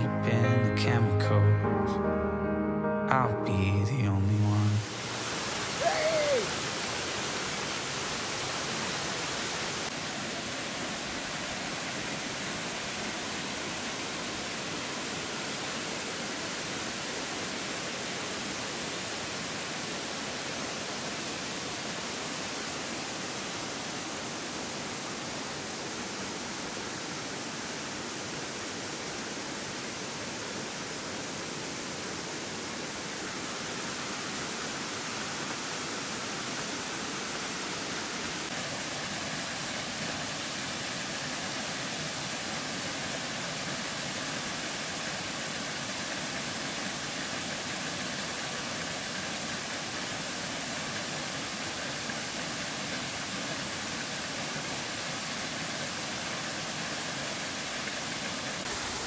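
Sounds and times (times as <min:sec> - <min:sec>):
waterfall rushing: 0:02.8 - 0:59.0.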